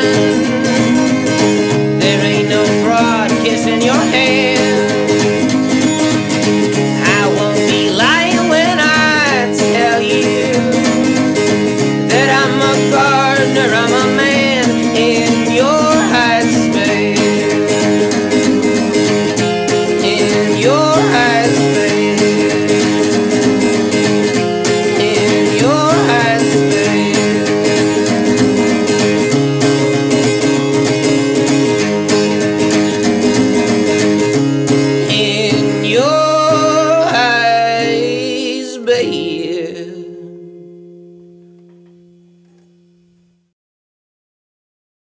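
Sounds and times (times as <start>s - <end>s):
song with guitar and singing: 0.0s - 42.7s.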